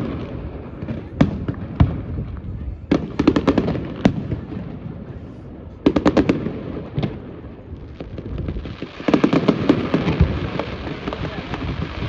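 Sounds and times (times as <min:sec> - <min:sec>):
fireworks banging: 0:00.0 - 0:12.0
fireworks crackling: 0:00.0 - 0:12.0.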